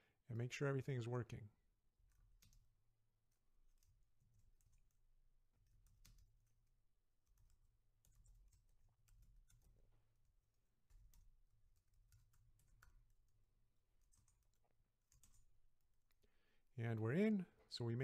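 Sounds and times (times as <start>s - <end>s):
faint keyboard typing: 2.0s - 17.7s.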